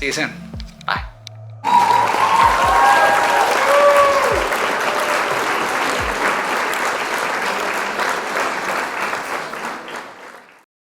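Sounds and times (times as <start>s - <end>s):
applause: 1.6s - 10.7s.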